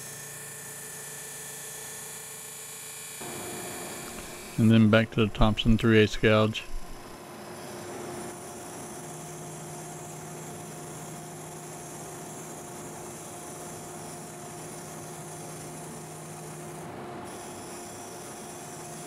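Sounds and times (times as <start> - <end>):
lathe motor hum: 0.0 - 19.0.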